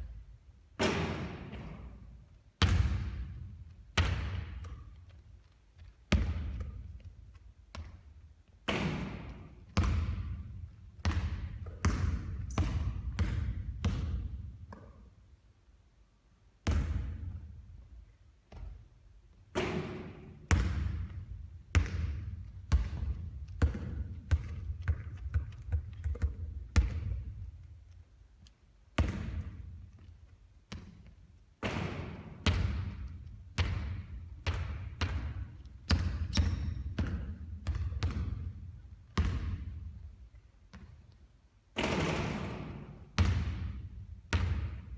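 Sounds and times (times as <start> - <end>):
basketball bouncing on court: 0.8 - 15.1, 16.6 - 17.6, 18.5 - 18.8, 19.5 - 27.8, 29.0 - 41.2, 41.8 - 44.9.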